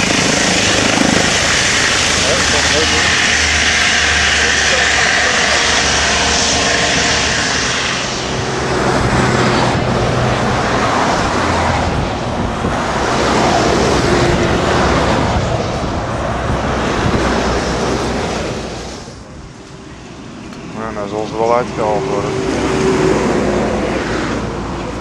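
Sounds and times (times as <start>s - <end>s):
helicopter rotors and turbine: 0.0s - 25.0s.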